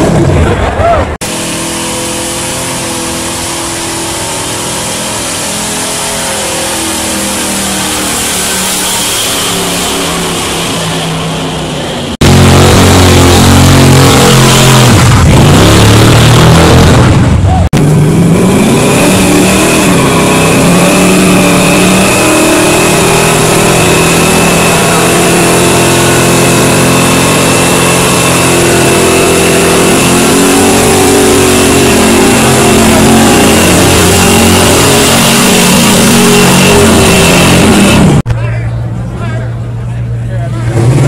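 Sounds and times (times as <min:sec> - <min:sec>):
car engine at high revs: 0:01.1 - 0:38.3, 0:40.6 - 0:41.0.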